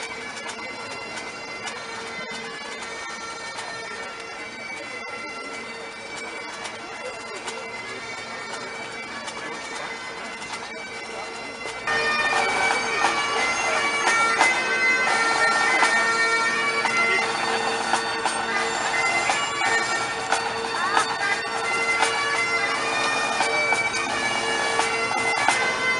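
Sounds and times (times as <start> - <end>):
bagpipes playing: 0.0 - 25.9.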